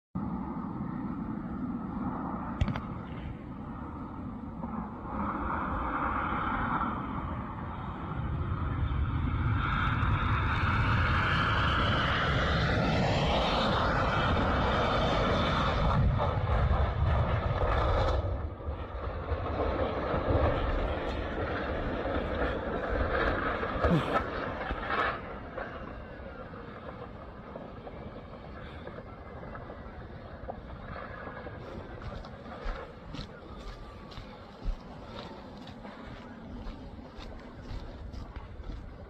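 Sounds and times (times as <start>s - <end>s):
jet airliner engines passing: 0.2s - 39.0s.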